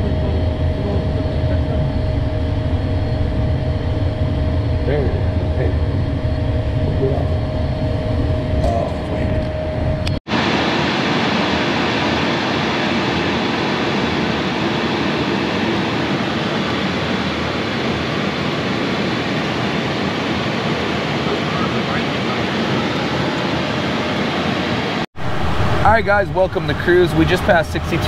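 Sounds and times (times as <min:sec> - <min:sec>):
jet cockpit low rumble: 0:00.0 - 0:28.0.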